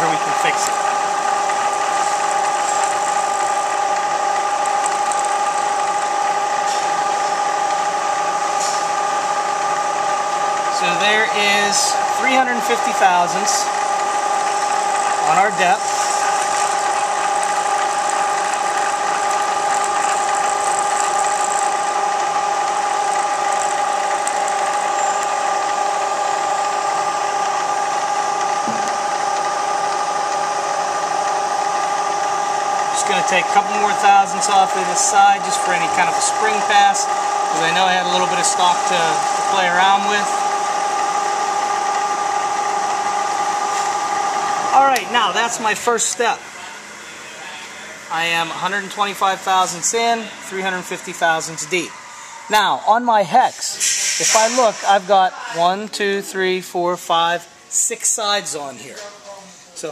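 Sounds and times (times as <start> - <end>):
milling machine whine: 0.0 - 59.0.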